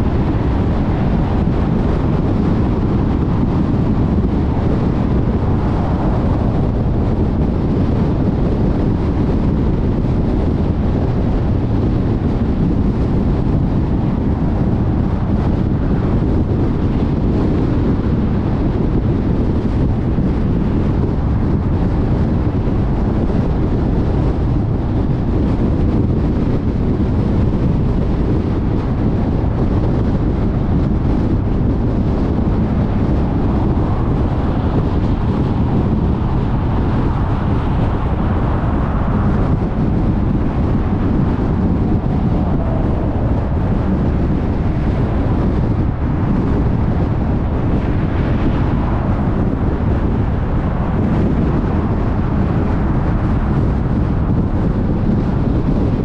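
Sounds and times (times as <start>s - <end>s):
tyres rumbling on road: 0.0s - 56.0s
wind rush over car: 0.0s - 56.0s.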